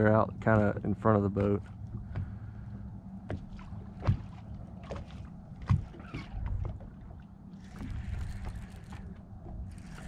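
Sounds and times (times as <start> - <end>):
low steady hum: 0.0 - 10.0
waves slapping boat hull: 0.0 - 10.0.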